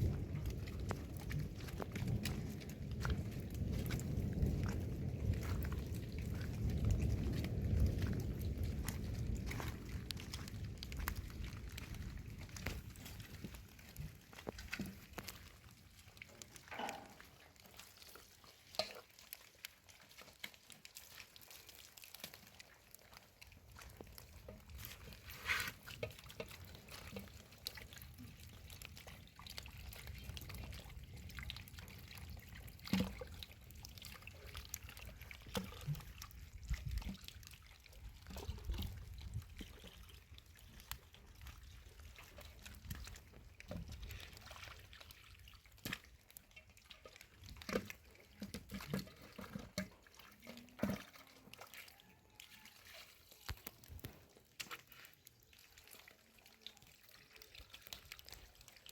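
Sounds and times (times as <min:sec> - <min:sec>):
water pouring and trickling: 0:00.0 - 0:58.9.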